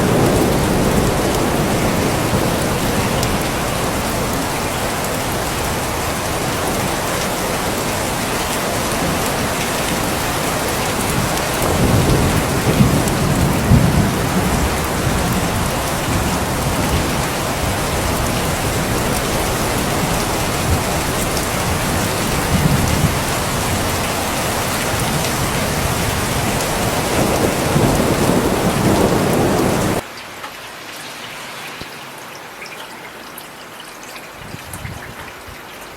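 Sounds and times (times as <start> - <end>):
low rolling thunder: 0.0 - 30.0
heavy rain: 0.0 - 35.9.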